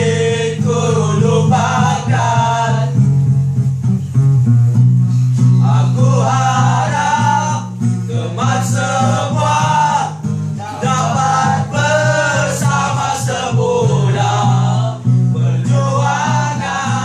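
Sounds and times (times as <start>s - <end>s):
group of men singing: 0.0s - 3.1s, 5.4s - 17.0s
acoustic guitar chords: 0.0s - 17.0s.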